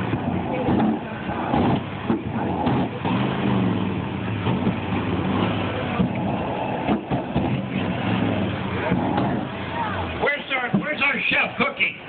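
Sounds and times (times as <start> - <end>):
exhaust pops: 0.0 - 11.1
engines running and revving: 0.0 - 12.0.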